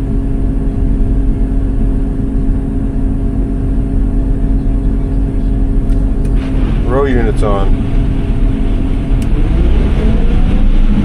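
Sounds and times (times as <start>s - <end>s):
farm machine rumbling and humming: 0.0s - 11.0s.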